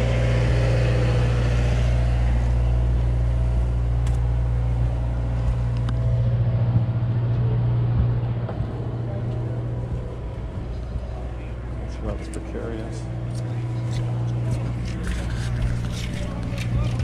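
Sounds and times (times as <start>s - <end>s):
boat diesel engine idling: 0.0s - 17.0s.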